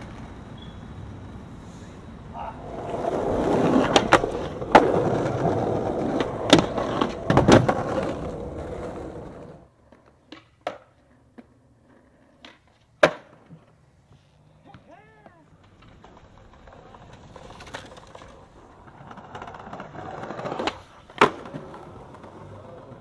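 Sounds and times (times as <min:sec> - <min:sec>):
skateboard clacking on ground: 0:00.0 - 0:00.5, 0:02.4 - 0:13.8, 0:14.6 - 0:23.0
skateboard wheels rolling on concrete: 0:00.0 - 0:23.0.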